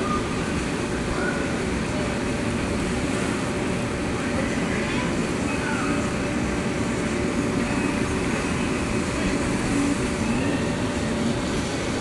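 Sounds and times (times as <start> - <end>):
steady mechanical rumble: 0.0 - 12.0.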